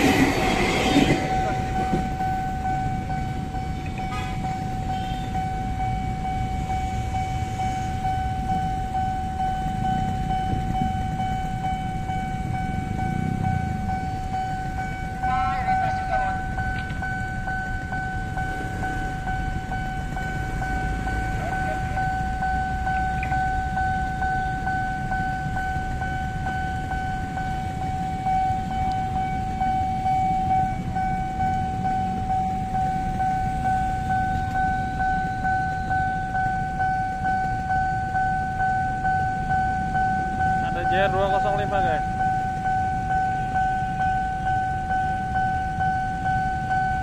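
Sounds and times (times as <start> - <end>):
bus idling: 0.0 - 47.0
level crossing alarm tone: 0.0 - 47.0.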